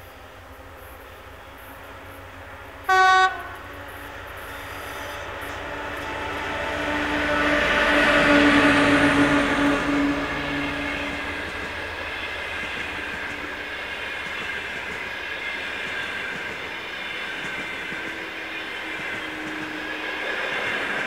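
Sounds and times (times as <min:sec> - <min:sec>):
diesel locomotive engine drone: 0:00.0 - 0:21.0
train wheels rolling on rails: 0:00.0 - 0:21.0.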